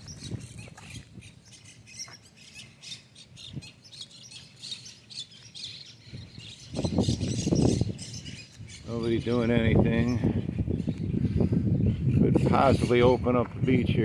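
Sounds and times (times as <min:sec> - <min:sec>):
birds high-pitched calls: 0:00.0 - 0:13.8.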